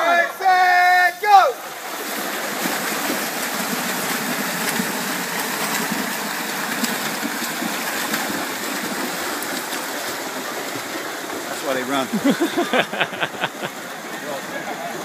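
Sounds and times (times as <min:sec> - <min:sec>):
swimmers splashing water: 0:00.0 - 0:15.0.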